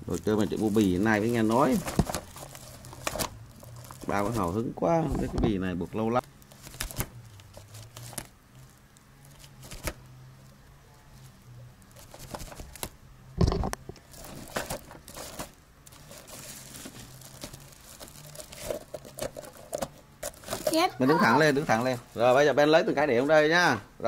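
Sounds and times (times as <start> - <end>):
plastic sack rustling: 0.0 - 10.0, 11.2 - 12.9, 14.0 - 23.5.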